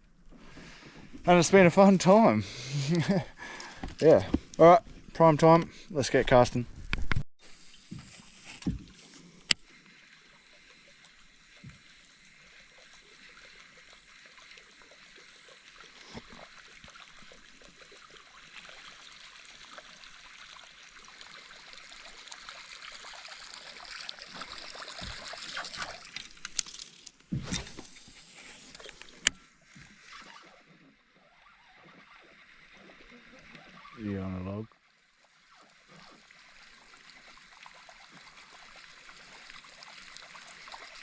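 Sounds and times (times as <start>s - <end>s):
water gurgling and splashing: 7.4s - 41.0s.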